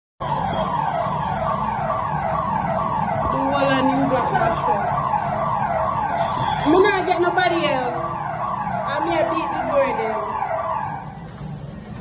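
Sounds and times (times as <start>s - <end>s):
electronic siren wailing: 0.2s - 11.4s.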